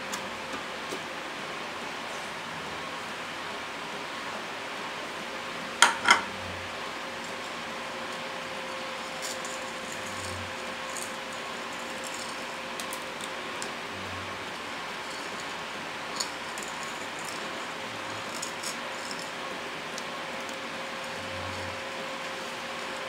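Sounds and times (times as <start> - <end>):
cooktop fan whirring: 0.0 - 23.0.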